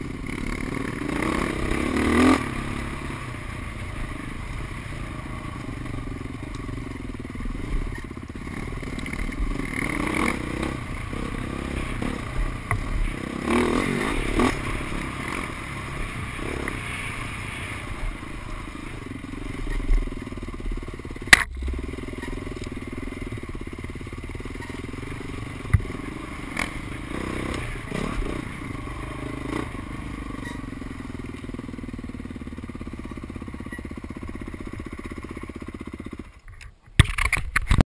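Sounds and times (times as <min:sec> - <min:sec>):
dirt bike engine revving: 0:00.0 - 0:36.3.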